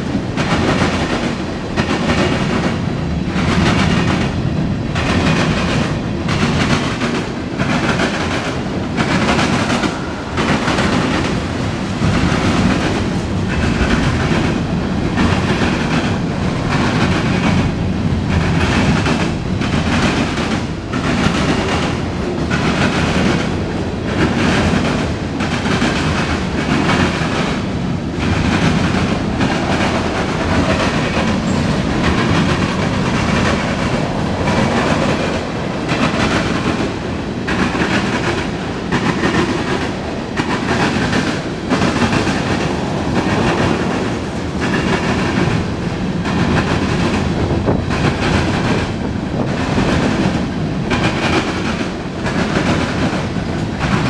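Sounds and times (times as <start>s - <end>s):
freight train wheels clickety-clack: 0.0s - 54.0s.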